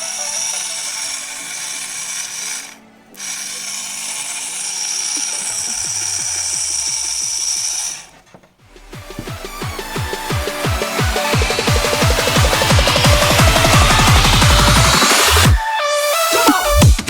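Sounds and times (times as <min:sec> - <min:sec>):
motor whining: 0:00.0 - 0:17.0.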